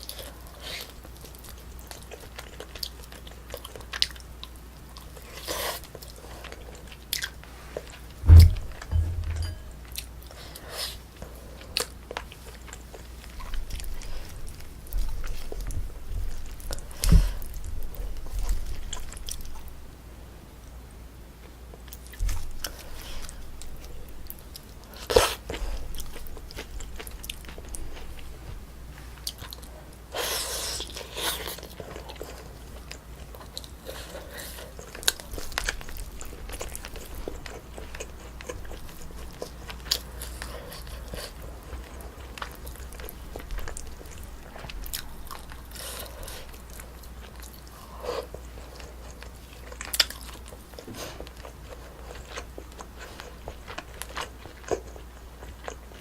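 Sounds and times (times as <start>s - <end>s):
close-up chewing and biting: 0.0s - 8.0s, 11.2s - 19.8s, 21.7s - 56.0s.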